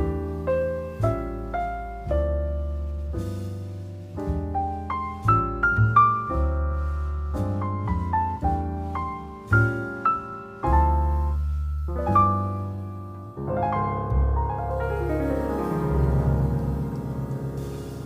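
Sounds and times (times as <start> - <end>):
gentle solo piano: 0.0 - 18.0.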